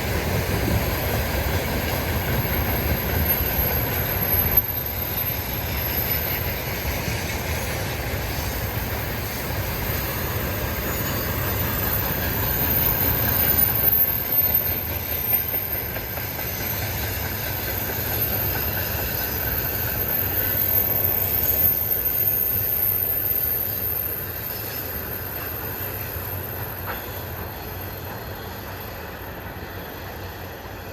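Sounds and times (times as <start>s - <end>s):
freight train wheels rumbling: 0.0s - 30.9s.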